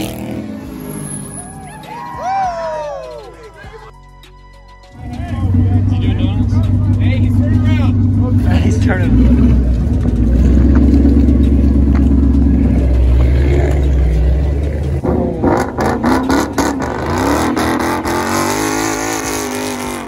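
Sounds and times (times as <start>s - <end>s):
car engine rumbling and revving: 0.0s - 1.9s, 4.9s - 20.0s.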